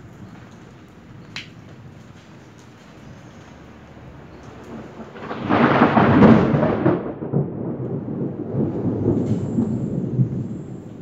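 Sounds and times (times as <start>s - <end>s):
thunderclap rumbling: 0.0s - 11.0s.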